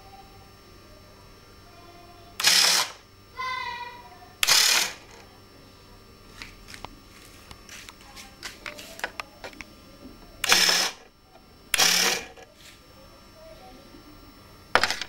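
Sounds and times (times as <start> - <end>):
mechanical whine: 0.0 - 15.0.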